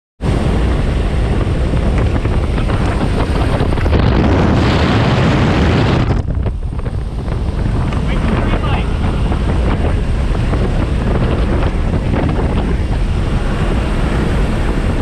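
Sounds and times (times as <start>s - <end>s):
wind buffeting microphone: 0.2s - 15.0s.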